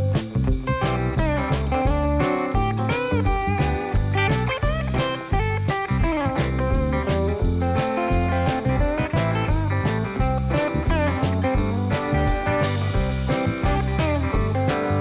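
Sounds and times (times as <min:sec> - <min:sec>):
bass line: 0:00.0 - 0:15.0
blues guitar tune: 0:00.0 - 0:15.0
steady beat: 0:00.0 - 0:15.0.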